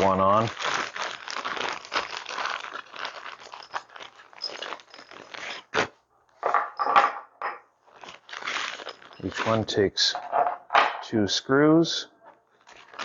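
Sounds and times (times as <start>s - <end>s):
rustling handling noise: 0.0s - 11.2s, 12.2s - 13.0s.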